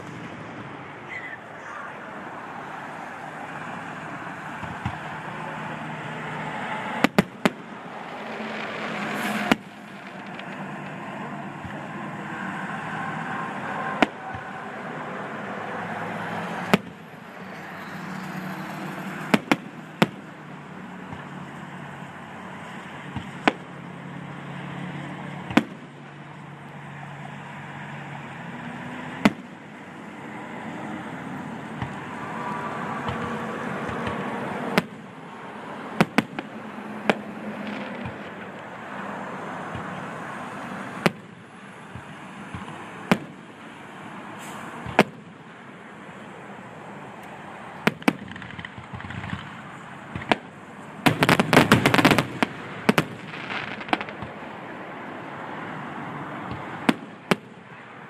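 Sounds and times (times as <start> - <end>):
fireworks bursting: 0.0 - 23.9, 25.4 - 26.1, 29.0 - 54.7, 56.4 - 57.8
steady background noise: 0.0 - 58.0.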